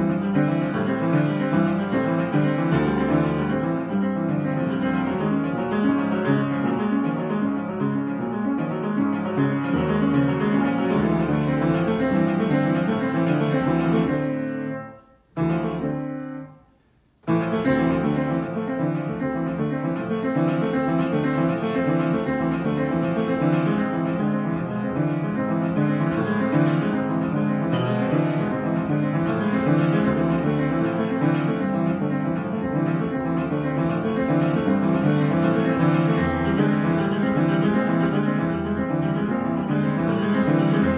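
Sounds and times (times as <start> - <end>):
solo piano improvisation: 0.0 - 40.9.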